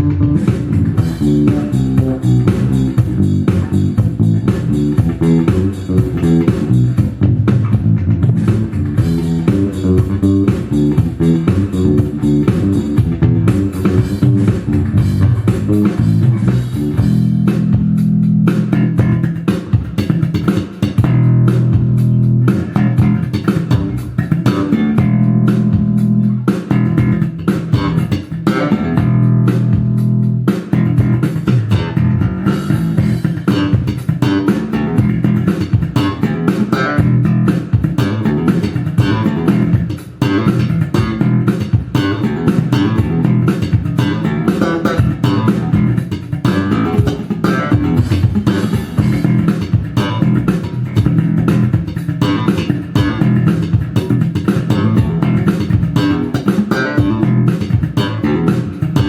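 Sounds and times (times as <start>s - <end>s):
electric bass playing: 0.0s - 59.0s.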